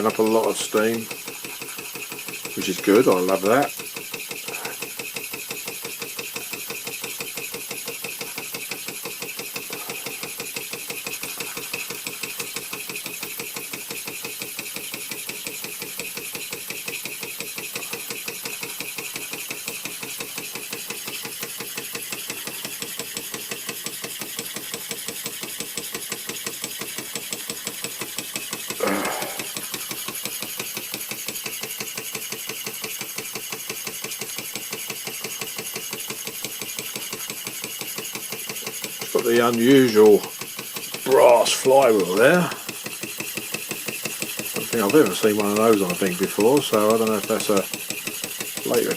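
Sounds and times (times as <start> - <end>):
toy steam engine chuffing: 0.0 - 48.9.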